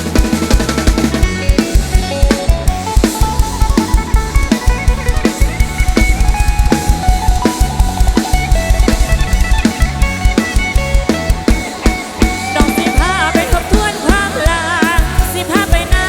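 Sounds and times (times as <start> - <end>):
fast drum-kit beat: 0.0 - 16.0
live band playing instrumental: 0.0 - 16.0.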